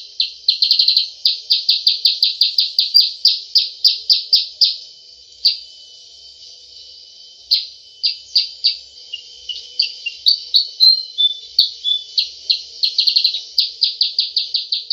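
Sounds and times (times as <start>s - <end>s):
bird chip calls: 0.0s - 4.8s, 7.5s - 14.9s.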